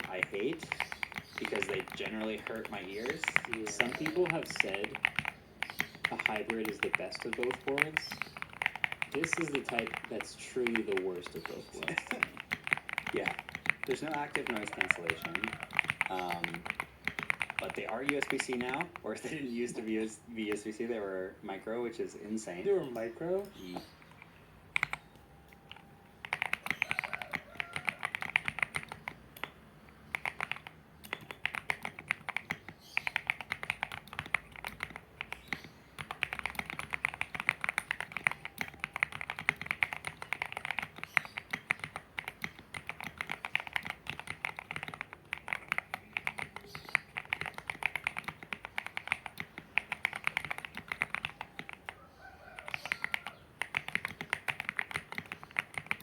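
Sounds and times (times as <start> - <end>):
mechanical keyboard typing: 0.0 - 20.8, 22.3 - 56.0.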